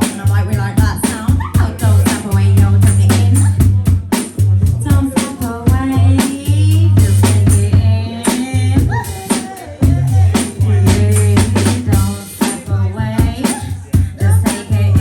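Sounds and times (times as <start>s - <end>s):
deep heavy bassline: 0.0s - 15.0s
drum kit playing: 0.0s - 15.0s.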